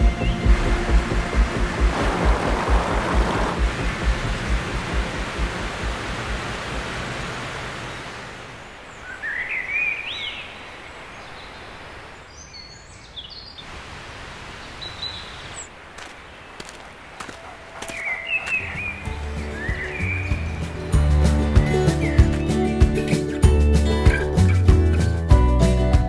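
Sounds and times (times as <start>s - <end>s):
birds chirping: 0.0s - 3.6s, 5.3s - 13.8s, 14.4s - 25.5s
stream water rushing over rocks: 0.0s - 12.4s, 13.6s - 24.3s.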